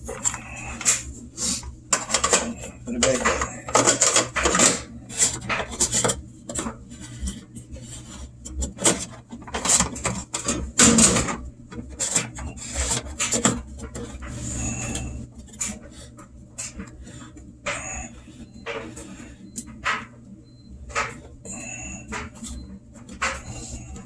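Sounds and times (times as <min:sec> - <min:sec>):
plastic scraping on plastic: 0:00.0 - 0:24.0.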